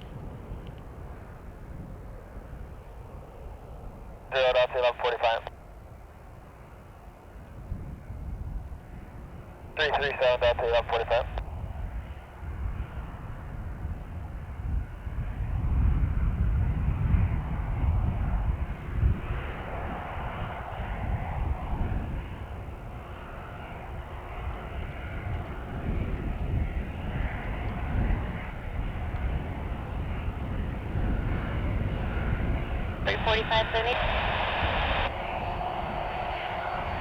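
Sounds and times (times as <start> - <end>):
airliner engines running: 0.0 - 37.0
wind rumbling on microphone: 0.0 - 37.0.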